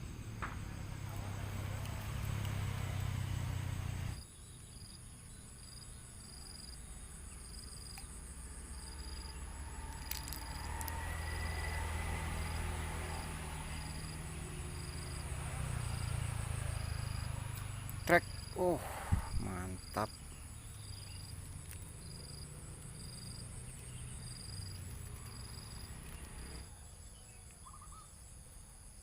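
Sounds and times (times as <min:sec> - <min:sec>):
insect high-pitched whine: 0:00.0 - 0:29.0
pulsed insect chirp: 0:00.0 - 0:29.0.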